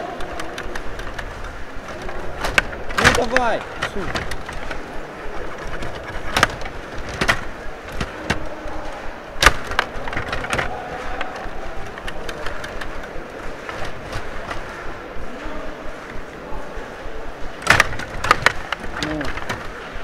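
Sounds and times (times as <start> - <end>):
table hockey clacks and rattles: 0.0 - 15.0, 17.5 - 20.0.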